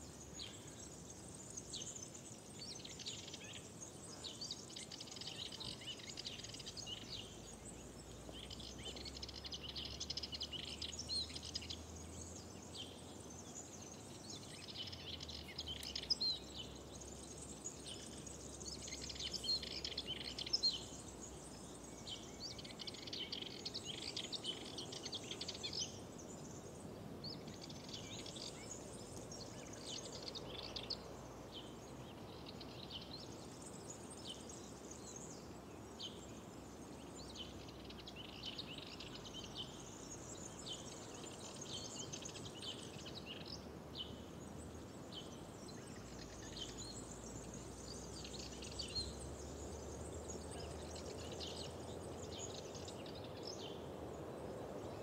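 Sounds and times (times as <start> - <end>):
small birds singing and chirping: 0.0 - 55.0.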